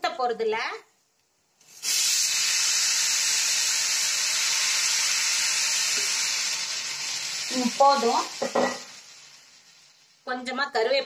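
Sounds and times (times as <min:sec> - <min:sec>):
potatoes sizzling in oil: 0:01.7 - 0:11.0.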